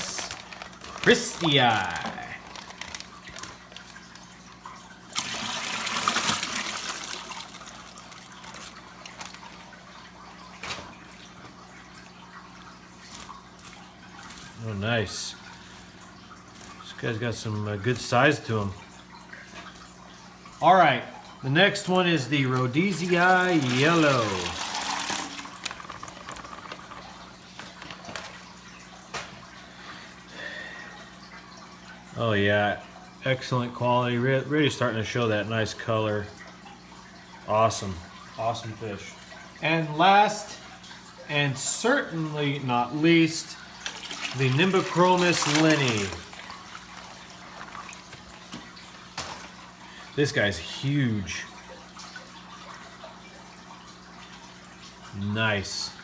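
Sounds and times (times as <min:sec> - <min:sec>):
water pouring into bucket: 0:00.0 - 0:56.0
water trickling and dripping: 0:00.0 - 0:56.0.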